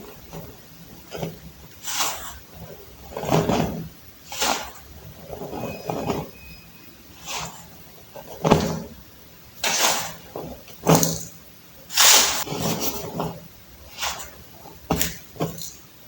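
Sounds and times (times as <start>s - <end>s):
baking soda blocks crunching: 0.0s - 16.0s.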